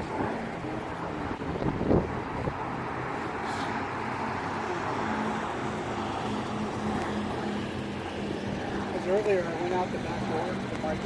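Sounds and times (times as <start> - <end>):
engine rumble: 0.0 - 11.0
steady hum: 0.0 - 11.0.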